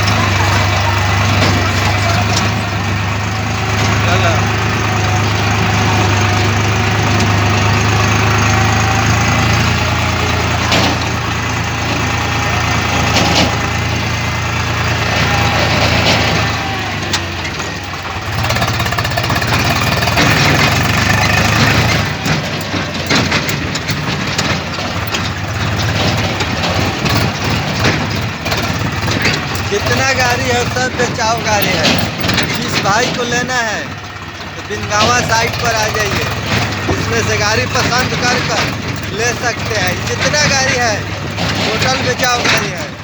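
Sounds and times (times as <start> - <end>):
sharp clattering knocks: 0.0 - 43.0
tractor diesel engine idling: 0.0 - 43.0.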